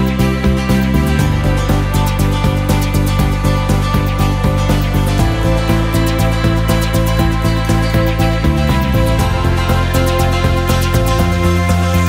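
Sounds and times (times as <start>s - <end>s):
music with steady beat and chords: 0.0s - 12.0s.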